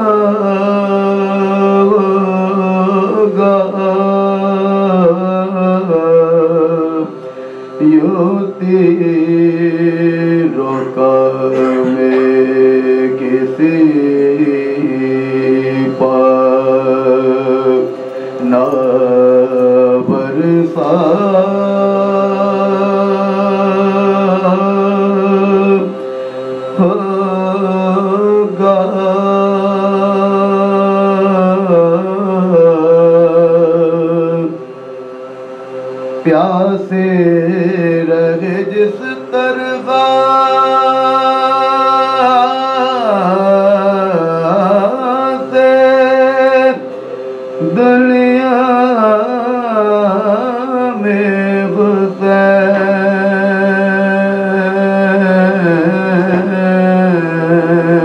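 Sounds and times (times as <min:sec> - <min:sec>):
men chanting unaccompanied: 0:00.0 - 0:58.0.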